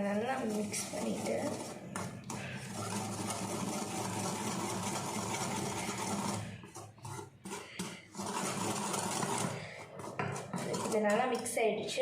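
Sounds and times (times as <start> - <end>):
powder scraping in a bowl: 0.0 - 11.6.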